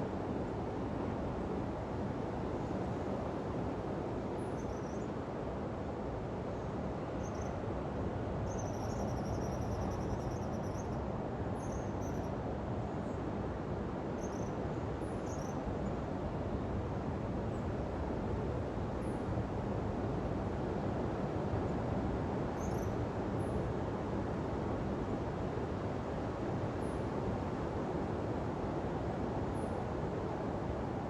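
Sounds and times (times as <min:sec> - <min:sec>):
wind: 0:00.0 - 0:31.0.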